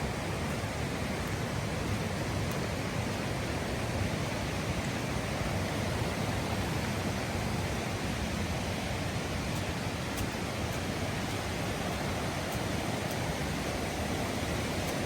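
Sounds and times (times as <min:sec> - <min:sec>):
waterfall roar: 0:00.0 - 0:15.0.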